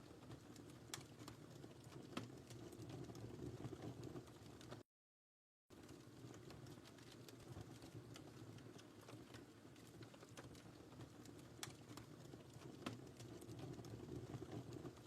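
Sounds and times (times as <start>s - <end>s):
wood fire crackling: 0.0s - 4.8s, 5.7s - 15.0s.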